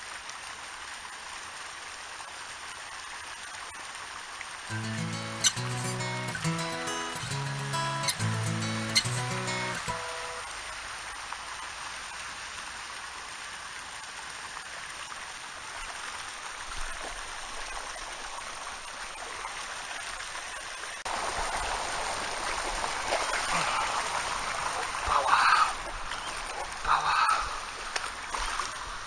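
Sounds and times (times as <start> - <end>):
flowing water rushing: 4.0 - 29.0.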